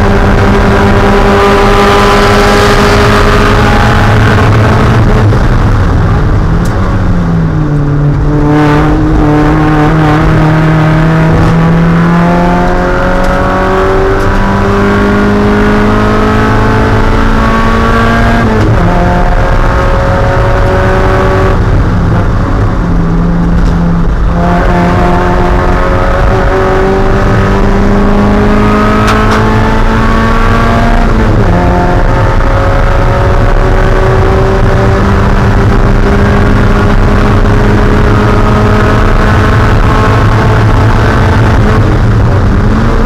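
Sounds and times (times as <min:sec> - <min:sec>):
car engine accelerating hard: 0:00.0 - 0:43.0.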